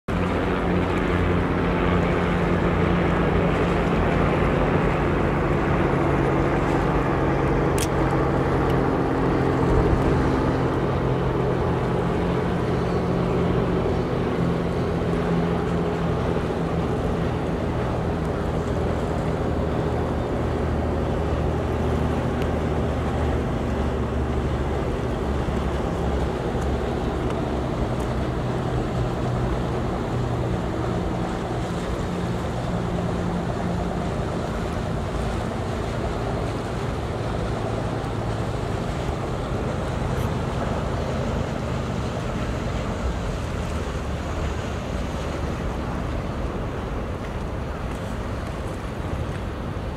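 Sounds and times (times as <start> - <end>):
wind: 0.0 - 49.9
motorboat engine humming: 0.1 - 49.9
water noise: 0.1 - 49.9.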